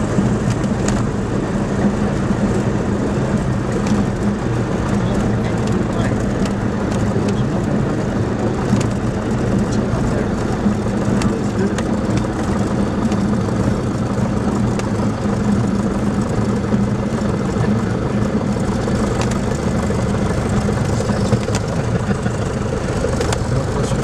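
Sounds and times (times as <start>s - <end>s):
light aircraft engine and propeller: 0.0s - 24.0s.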